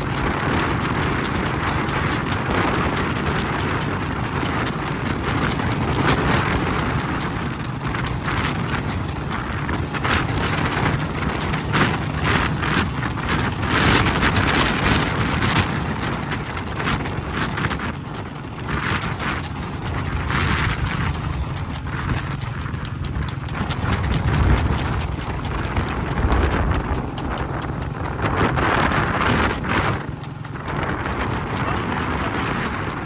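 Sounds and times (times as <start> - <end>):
clicks and clatter: 0.0 - 33.0
motor vehicle running: 0.0 - 33.0.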